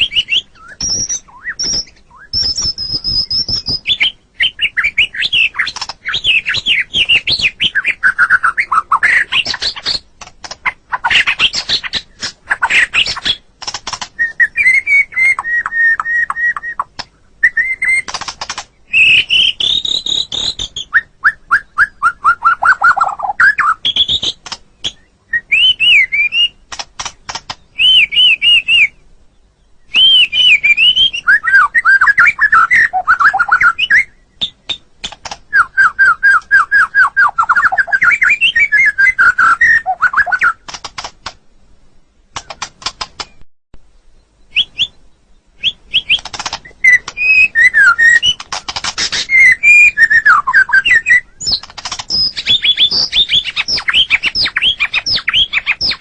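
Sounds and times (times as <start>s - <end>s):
songbird singing whistled phrases: 0.0s - 18.2s, 18.8s - 26.7s, 27.3s - 34.9s, 35.5s - 40.8s, 44.0s - 56.0s.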